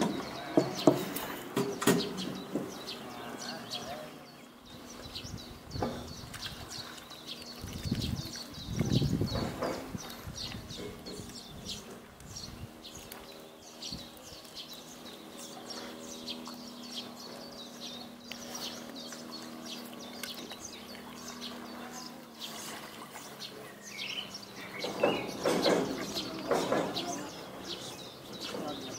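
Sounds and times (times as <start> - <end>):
small birds chirping: 0.0 - 28.9
steady low hum: 0.0 - 28.9.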